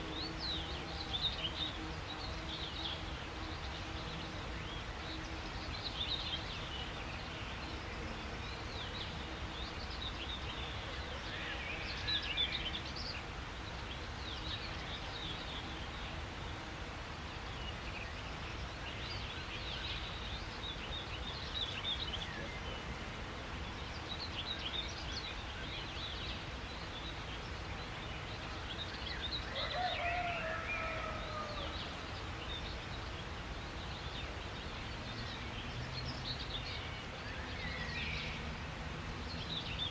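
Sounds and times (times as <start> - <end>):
outdoor ambient hiss: 0.0 - 39.9.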